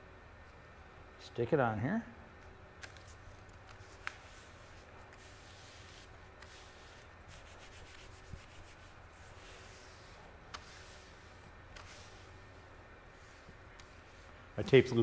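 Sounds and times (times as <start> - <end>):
hands brushing tape on steel: 2.8 - 14.8.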